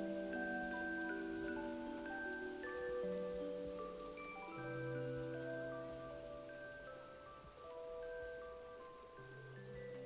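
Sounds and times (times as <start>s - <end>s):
soft music with held notes: 0.0s - 10.0s.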